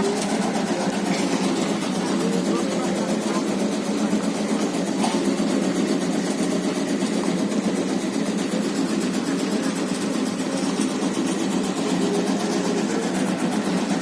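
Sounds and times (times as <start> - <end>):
tobacco-cutting machine drone: 0.0 - 14.0.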